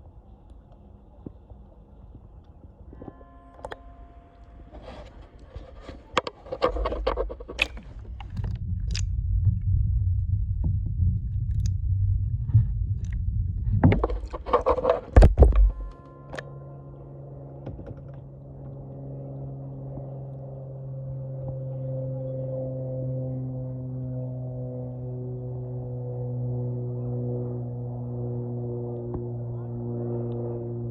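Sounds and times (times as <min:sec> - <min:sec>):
muffled low rumble: 0:00.0 - 0:30.9
steady multi-pitched hum: 0:02.6 - 0:30.9.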